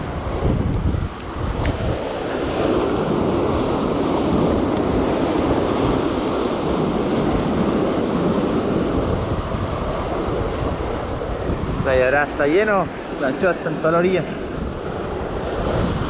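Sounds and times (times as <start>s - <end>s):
ocean surf washing around rocks: 0.0s - 16.0s.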